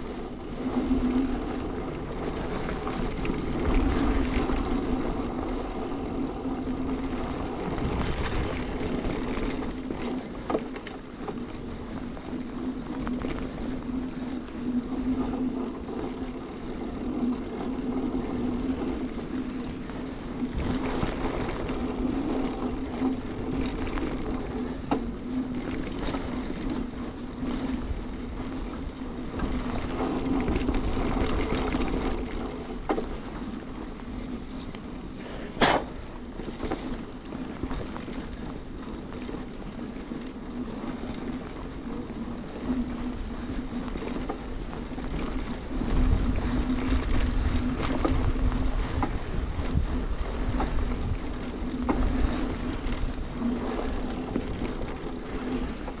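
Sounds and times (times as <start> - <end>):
bike tyres humming on dirt: 0.0 - 56.0.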